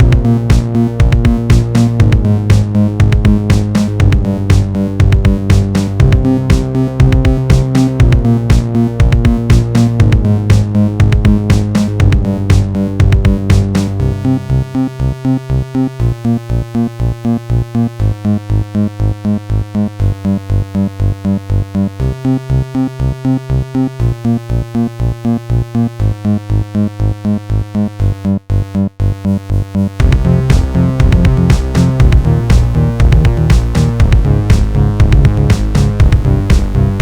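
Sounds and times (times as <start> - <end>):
low bass: 0.0 - 37.0
pulsing synthesizer electronic music: 0.0 - 37.0.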